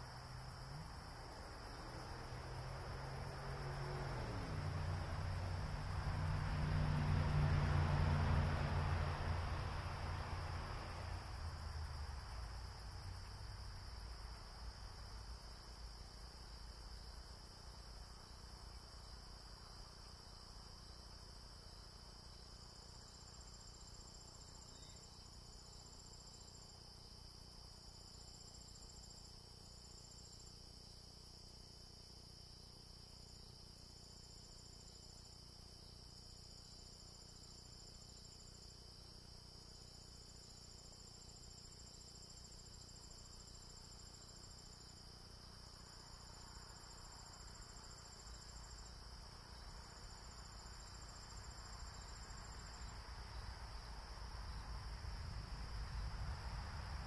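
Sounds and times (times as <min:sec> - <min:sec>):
crickets droning: 0:00.0 - 0:57.0
insect trill: 0:00.0 - 0:57.0.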